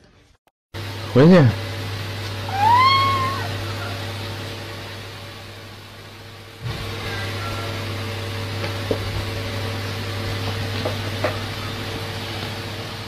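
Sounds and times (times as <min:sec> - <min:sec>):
low hum with tones: 0:00.0 - 0:13.0.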